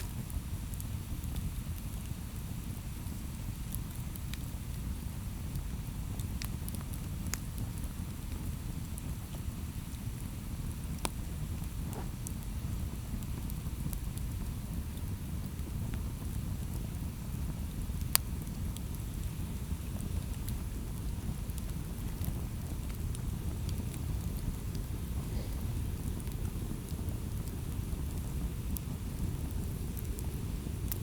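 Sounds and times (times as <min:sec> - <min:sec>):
campfire flames rumbling: 0:00.0 - 0:31.0
fire crackling: 0:00.0 - 0:31.0.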